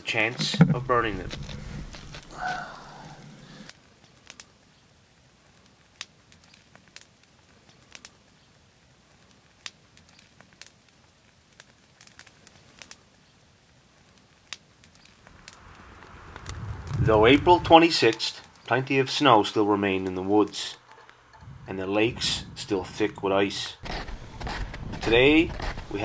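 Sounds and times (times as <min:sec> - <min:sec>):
burning wood popping: 0:00.0 - 0:26.0
campfire crackling: 0:00.0 - 0:26.0.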